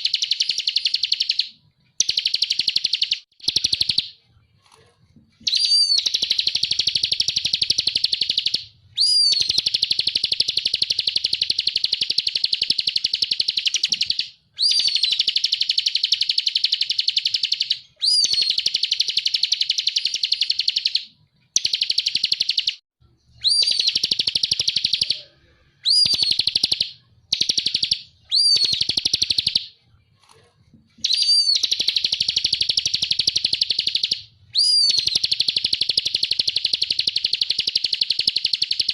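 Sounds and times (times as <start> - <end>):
bird singing rattling trills: 0.0 - 4.1, 5.4 - 29.7, 31.0 - 38.9.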